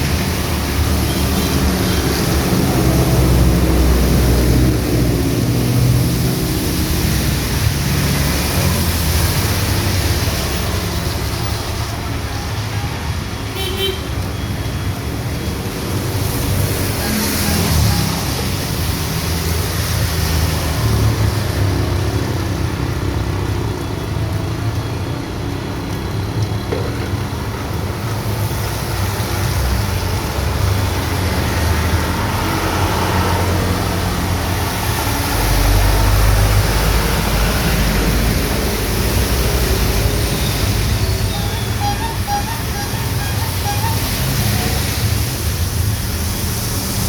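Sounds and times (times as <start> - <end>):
heavy rain on a street: 0.0 - 47.0
road traffic: 0.0 - 47.0.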